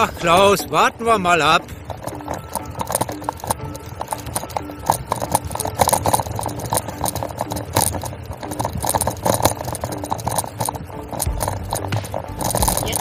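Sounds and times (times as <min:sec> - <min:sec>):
bicycle rattling and clattering: 0:00.0 - 0:13.0
tyre noise: 0:00.0 - 0:13.0.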